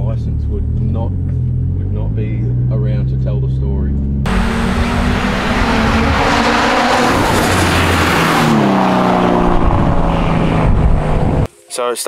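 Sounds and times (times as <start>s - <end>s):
engine at high revs: 0.4s - 11.5s.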